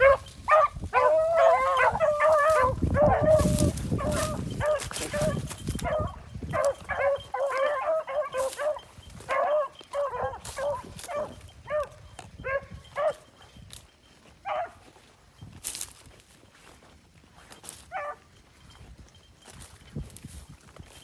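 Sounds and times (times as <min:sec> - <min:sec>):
dogs baying and barking: 0:00.0 - 0:16.4, 0:17.3 - 0:19.9.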